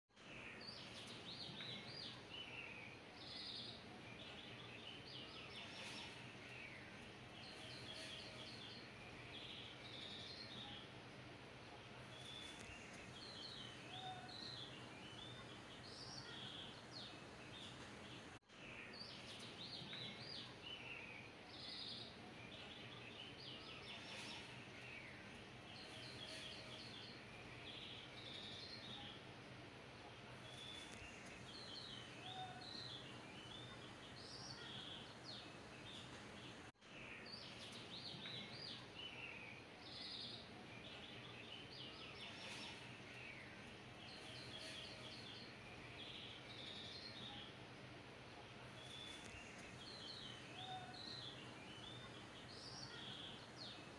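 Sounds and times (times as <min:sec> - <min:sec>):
small birds chirping: 0:00.1 - 0:53.9.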